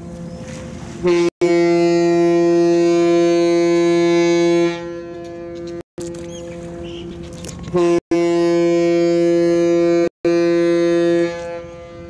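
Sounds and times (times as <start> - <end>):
ship's horn blast: 0.9 - 5.8, 6.5 - 12.0.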